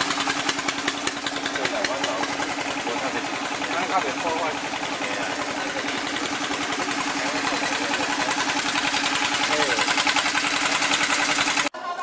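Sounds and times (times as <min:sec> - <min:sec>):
engine running with pulsing hum: 0:00.0 - 0:11.7.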